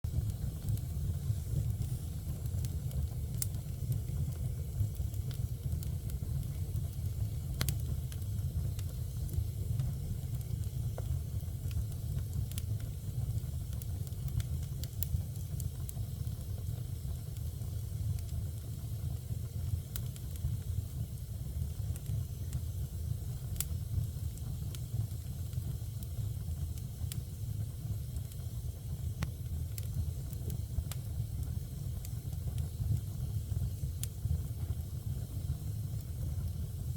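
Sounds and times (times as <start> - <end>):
fire rumbling in a fireplace: 0.0 - 36.9
fire crackling and popping: 0.1 - 36.9.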